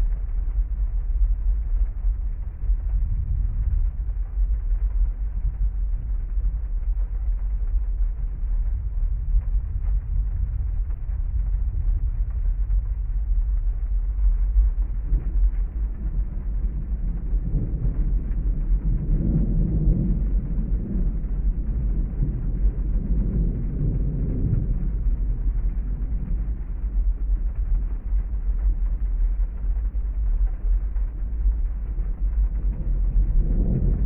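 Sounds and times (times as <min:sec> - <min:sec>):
heavy rain: 0:00.0 - 0:34.0
thunder rolling: 0:00.0 - 0:34.0.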